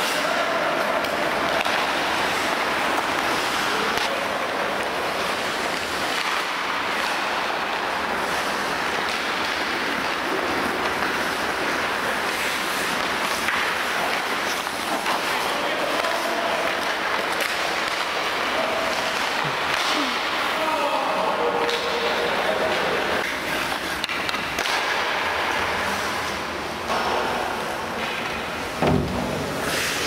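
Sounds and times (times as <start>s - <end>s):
hockey sticks and pucks clacking: 0.0s - 30.0s
skate blades scraping ice: 0.0s - 30.0s.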